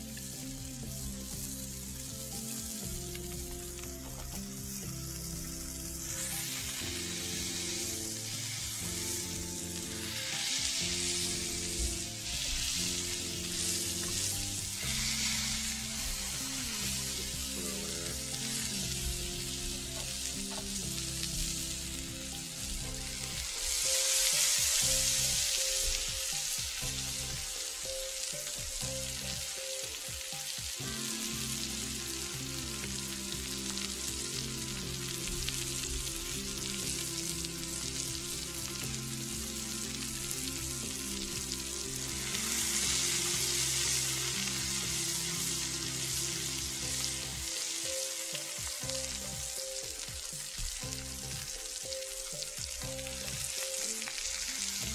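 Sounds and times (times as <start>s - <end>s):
background music: 0.0s - 54.9s
burger patties sizzling on griddle: 0.0s - 54.9s.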